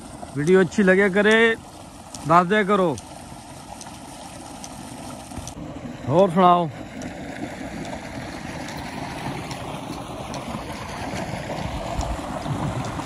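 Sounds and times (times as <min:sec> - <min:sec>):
water gushing into a channel: 0:00.0 - 0:13.0.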